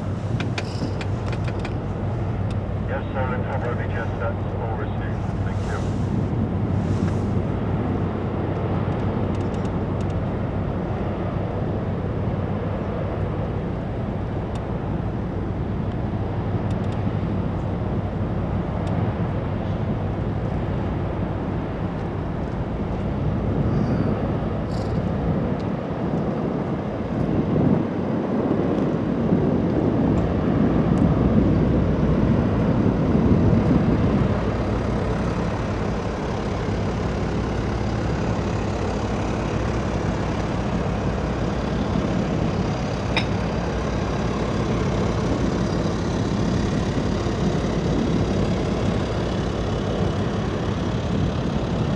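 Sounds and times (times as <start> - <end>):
low engine hum: 0.0 - 51.9.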